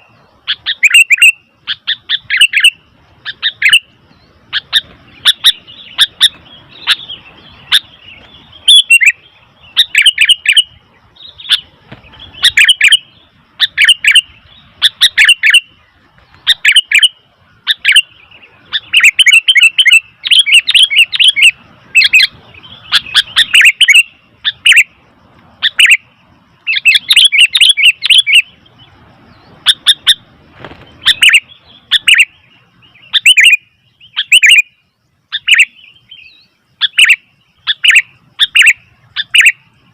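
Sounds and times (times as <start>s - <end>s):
birds chirping sharply: 0.0s - 25.0s, 25.6s - 39.9s.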